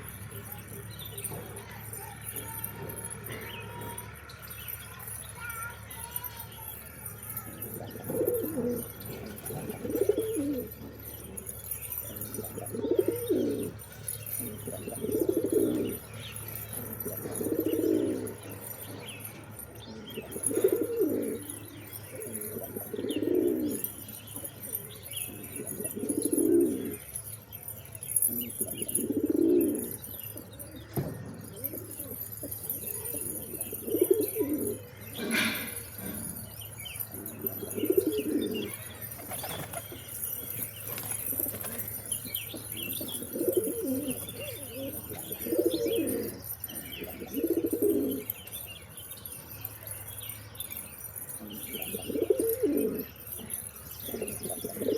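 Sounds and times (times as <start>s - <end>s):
pigeons cooing: 0.0s - 54.9s.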